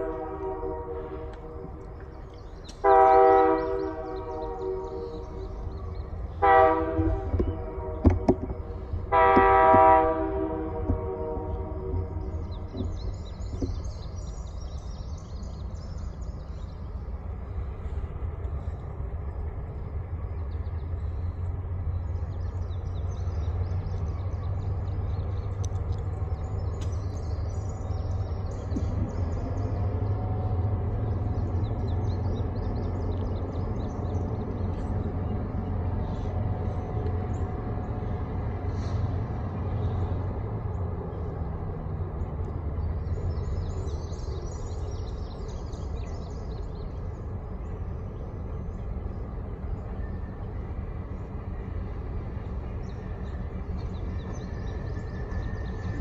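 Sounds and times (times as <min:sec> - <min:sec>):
birds chirping: 0:00.0 - 0:56.0
diesel locomotive rumbling: 0:00.0 - 0:56.0.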